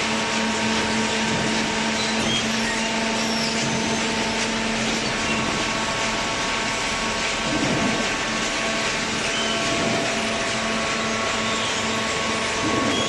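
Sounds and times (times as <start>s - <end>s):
baler machine hum: 0.0s - 13.0s.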